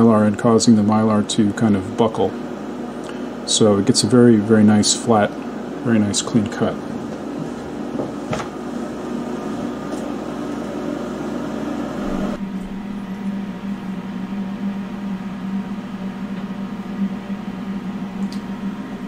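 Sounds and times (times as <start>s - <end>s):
laser cutter fans humming: 0.0s - 19.0s.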